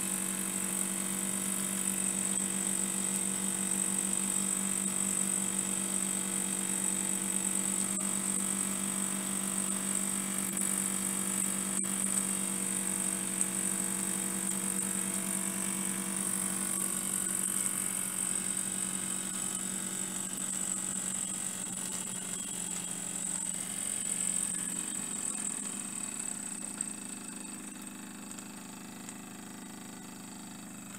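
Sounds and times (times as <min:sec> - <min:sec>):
model steam engine humming: 0:00.0 - 0:30.9.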